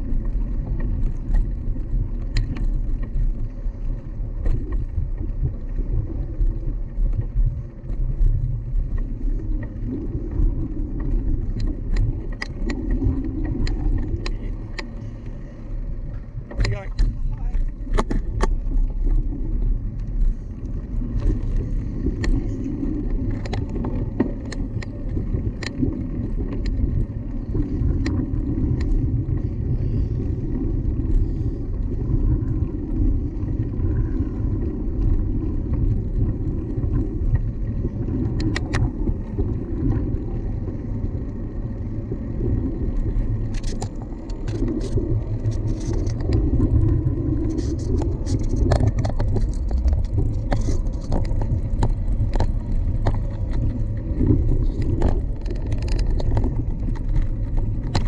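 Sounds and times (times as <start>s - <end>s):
bicycle riding rumble: 0.0s - 58.0s
bike rattles and clicks: 0.0s - 58.0s.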